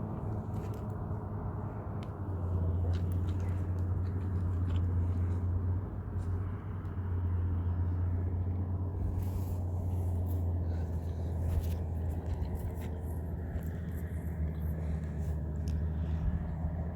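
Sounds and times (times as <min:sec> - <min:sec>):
low rumble with hum: 0:00.0 - 0:16.9.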